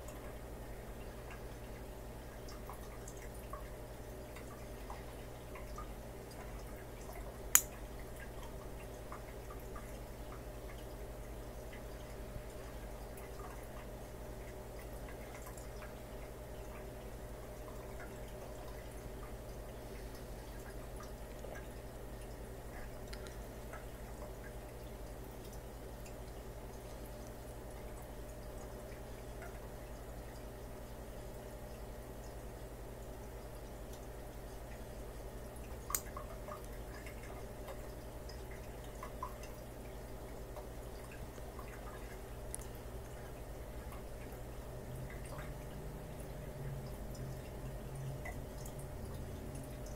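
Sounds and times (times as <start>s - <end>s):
aquarium hum: 0.0s - 49.9s
faint drip-like ticks: 0.0s - 49.9s
water trickling: 0.0s - 49.9s.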